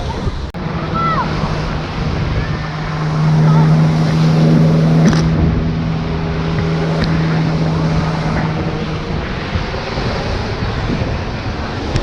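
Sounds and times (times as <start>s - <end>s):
helicopter low hum: 0.0s - 12.0s
rushing noise: 0.0s - 12.0s.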